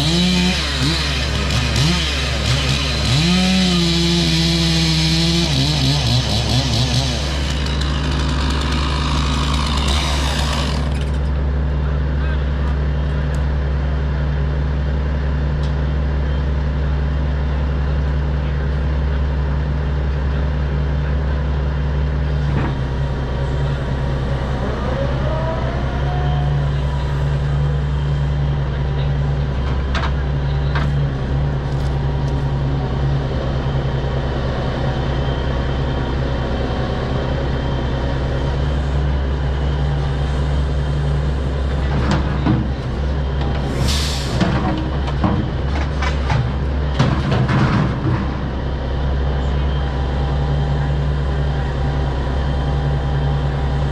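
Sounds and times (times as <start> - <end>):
diesel engine under hydraulic load: 0.0 - 53.9.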